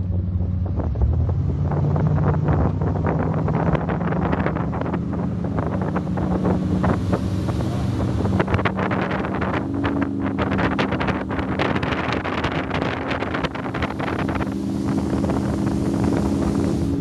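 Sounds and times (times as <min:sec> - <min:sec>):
powerboat engines running: 0:00.0 - 0:17.0
wind buffeting microphone: 0:00.0 - 0:17.0.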